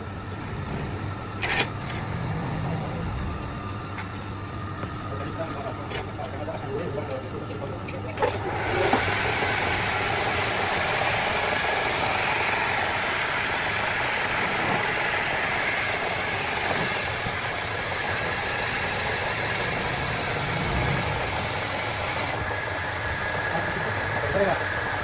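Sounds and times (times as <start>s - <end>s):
machine running: 0.0s - 25.0s.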